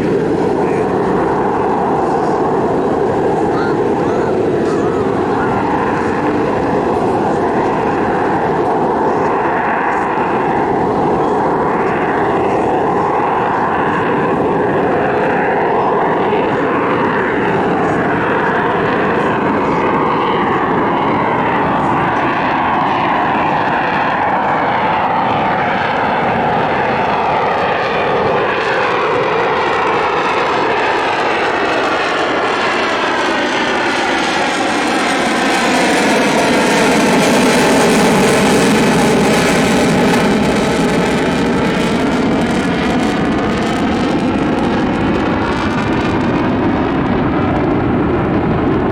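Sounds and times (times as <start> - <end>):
aircraft engine drone: 0.0 - 48.9.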